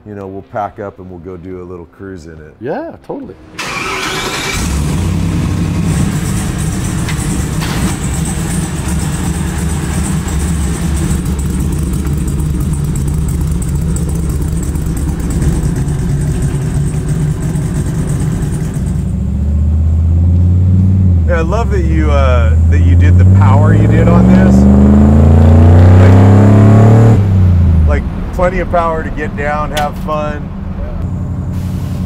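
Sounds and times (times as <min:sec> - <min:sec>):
low engine note: 0:00.0 - 0:32.0.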